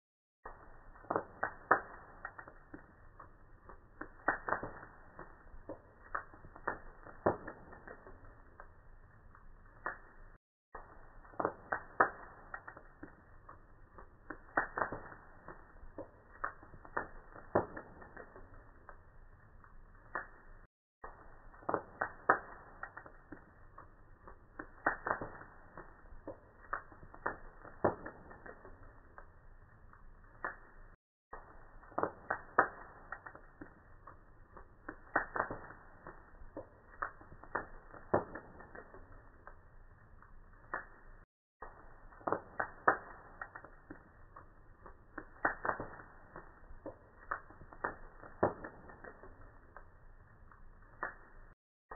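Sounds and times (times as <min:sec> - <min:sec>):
fire crackling and popping: 0:00.4 - 0:51.9.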